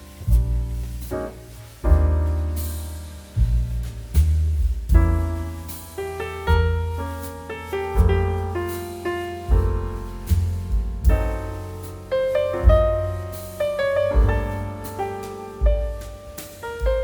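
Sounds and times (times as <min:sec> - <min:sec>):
low bass notes: 0:00.0 - 0:17.0
piano music: 0:00.0 - 0:17.0.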